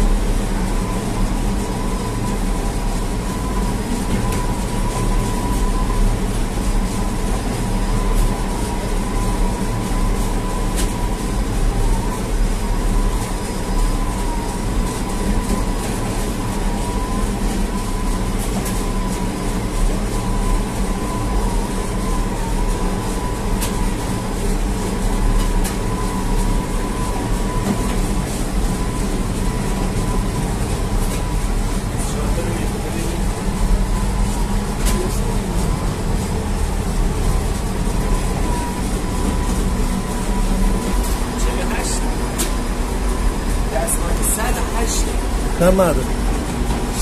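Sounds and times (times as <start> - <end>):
dough-dividing machine running: 0.0 - 47.0.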